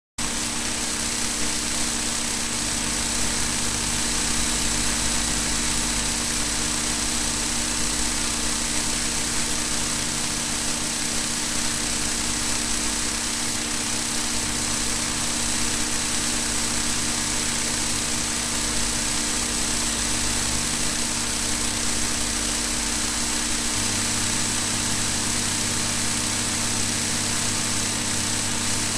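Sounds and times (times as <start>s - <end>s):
steady film hiss: 0.2s - 28.9s.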